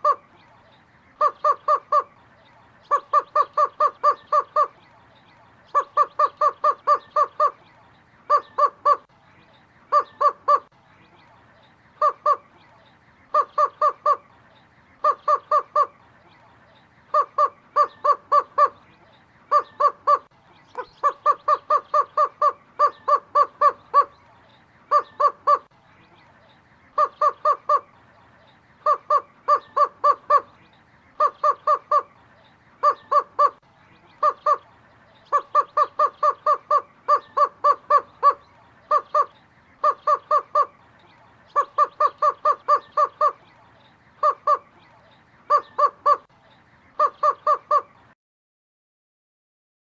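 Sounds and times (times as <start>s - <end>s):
roadrunner calling: 0.0s - 48.1s.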